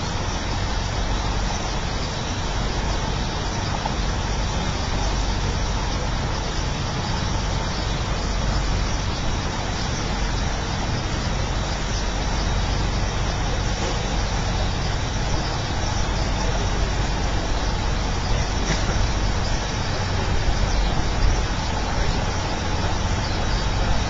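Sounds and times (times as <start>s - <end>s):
boat wind and water noise: 0.0s - 24.0s.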